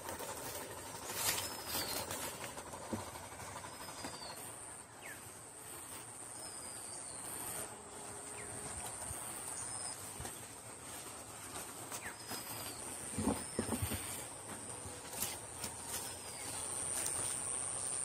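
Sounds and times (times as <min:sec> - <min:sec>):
high-pitched insect drone: 0:00.0 - 0:11.1, 0:12.1 - 0:18.0.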